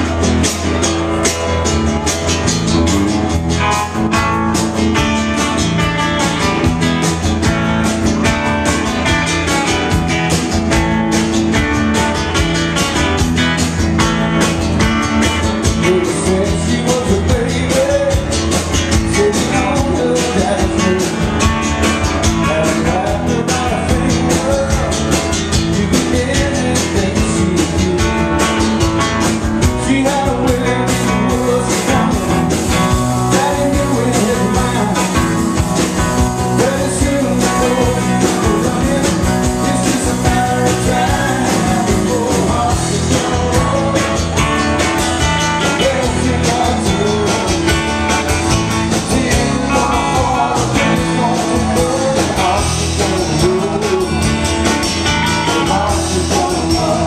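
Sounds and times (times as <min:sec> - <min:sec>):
drum kit driving beat: 0:00.0 - 0:57.0
electric guitars: 0:00.0 - 0:57.0.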